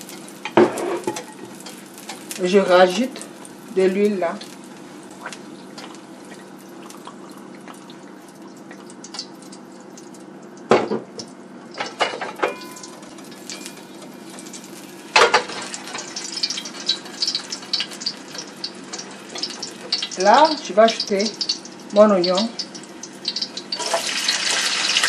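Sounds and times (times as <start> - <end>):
oil sizzling in wok: 0.0 - 25.0.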